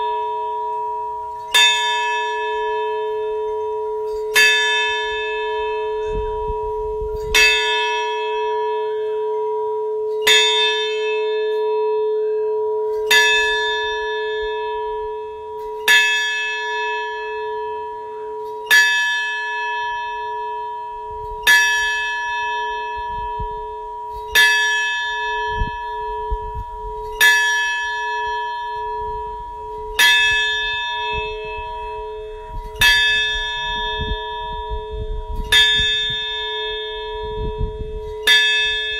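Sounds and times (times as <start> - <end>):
deep bell hum: 0.0 - 38.9
large bell tolling: 0.0 - 38.9.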